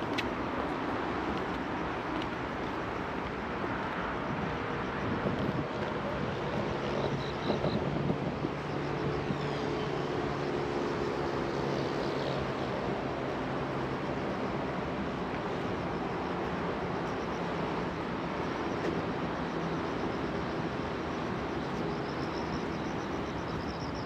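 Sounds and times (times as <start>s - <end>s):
city road traffic: 0.0s - 24.0s.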